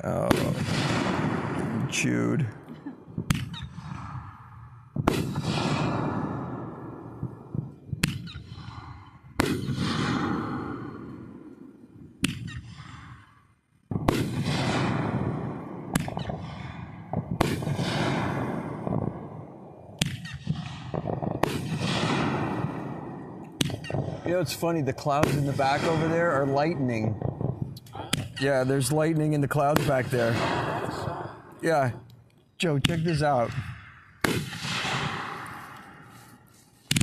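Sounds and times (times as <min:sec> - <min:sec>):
fireworks bangs with crackling tail: 0:00.0 - 0:11.5, 0:13.9 - 0:32.0, 0:32.6 - 0:37.0.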